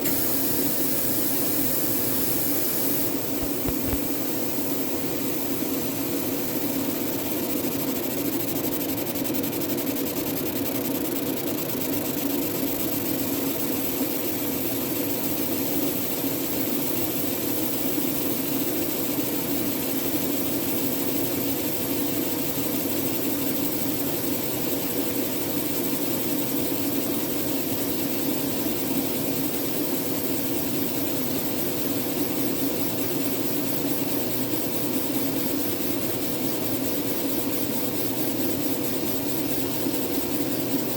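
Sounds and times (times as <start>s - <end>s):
laser engraving machine humming: 0.0s - 40.9s.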